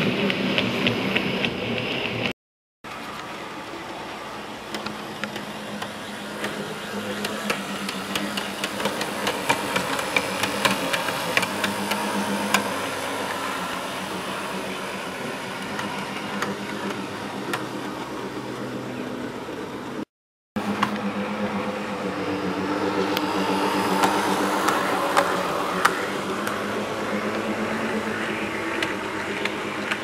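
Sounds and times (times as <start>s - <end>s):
model train motor hum: 2.9s - 20.0s, 20.6s - 30.0s
wheels clicking over rail joints: 2.9s - 20.0s, 20.6s - 30.0s.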